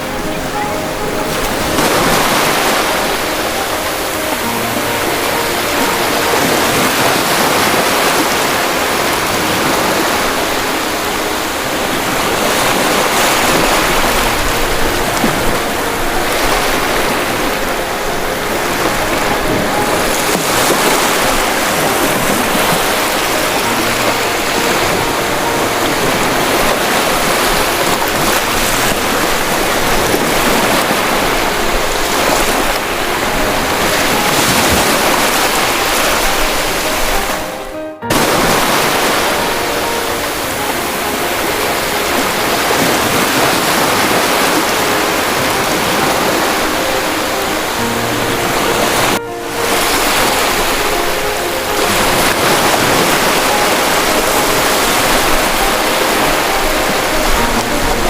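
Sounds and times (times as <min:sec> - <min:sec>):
ocean waves washing onto shore: 0:00.0 - 0:58.0.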